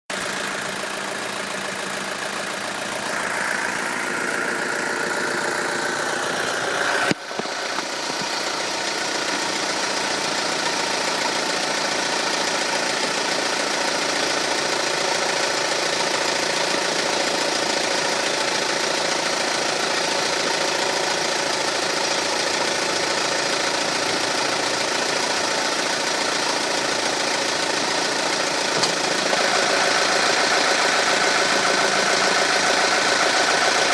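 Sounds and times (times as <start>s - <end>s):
car engine running with rattle: 0.1s - 33.9s.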